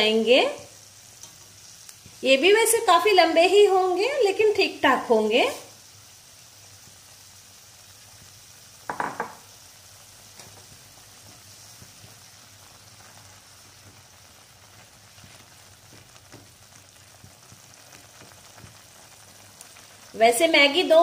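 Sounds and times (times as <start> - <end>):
noodles bubbling in pan: 0.0 - 21.0.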